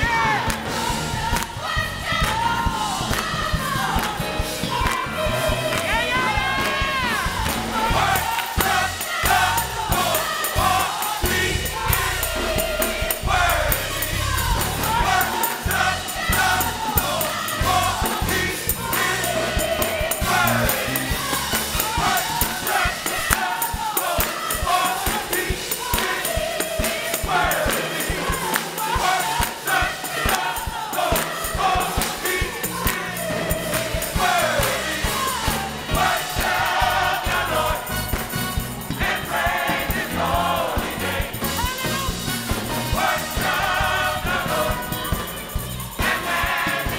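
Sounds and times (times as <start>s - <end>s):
drum kit with cymbals: 0.0s - 46.9s
gospel choir singing: 0.0s - 46.9s
keyboard: 0.0s - 46.9s
tambourine shaken: 4.8s - 46.9s.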